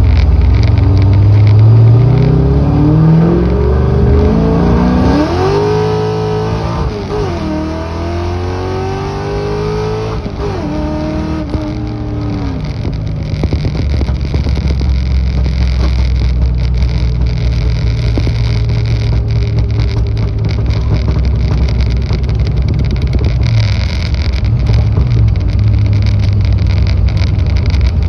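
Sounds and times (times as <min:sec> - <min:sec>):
car engine running loud: 0:00.0 - 0:28.0.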